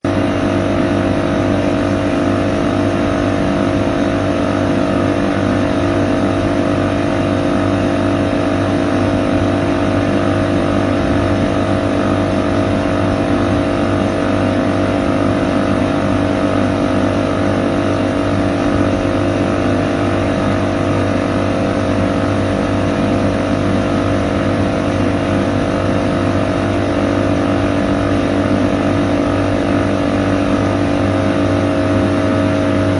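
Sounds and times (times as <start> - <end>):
air conditioning unit humming: 0.0 - 32.9.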